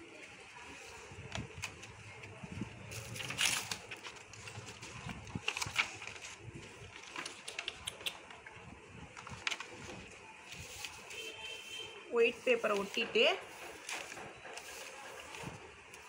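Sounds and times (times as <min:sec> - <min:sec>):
paper rustling and crinkling: 0:00.5 - 0:16.0.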